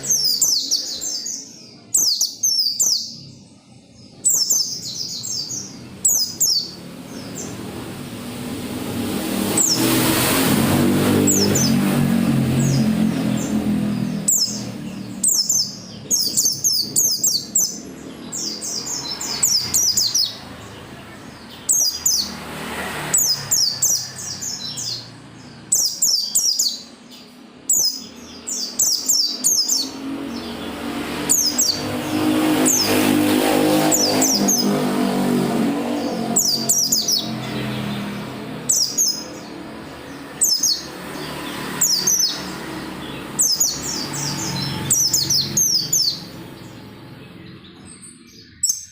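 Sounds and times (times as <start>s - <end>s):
bird chirping: 0.0s - 48.9s.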